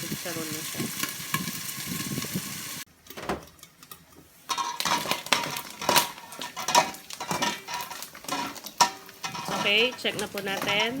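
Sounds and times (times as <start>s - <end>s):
pork sizzling and popping in oil: 0.0s - 11.0s.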